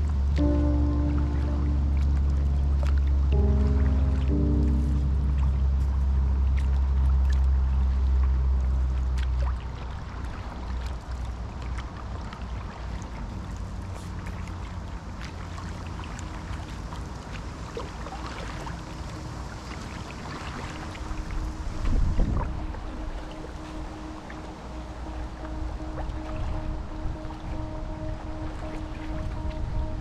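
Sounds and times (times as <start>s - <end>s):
low ambient music drone: 0.0s - 30.0s
small splashes and drips: 0.0s - 30.0s
water lapping and trickling: 0.0s - 30.0s.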